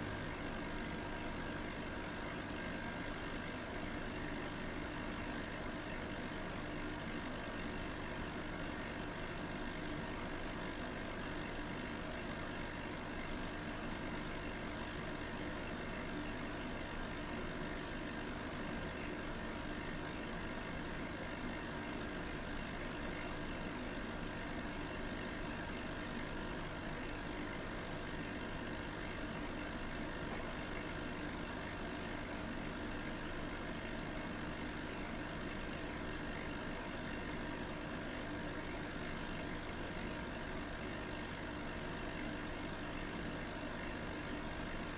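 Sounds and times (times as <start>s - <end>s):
mechanical hum: 0.0s - 44.9s.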